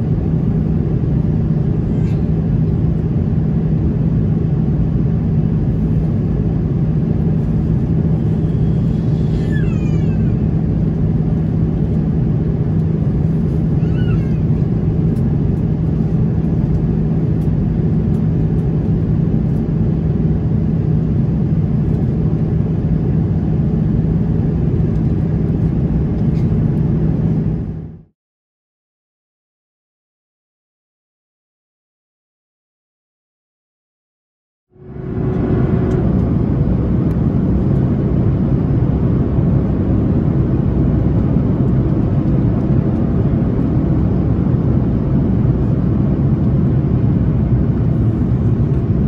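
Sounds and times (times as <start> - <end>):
airplane cabin rumble: 0.0 - 28.1, 34.7 - 49.0.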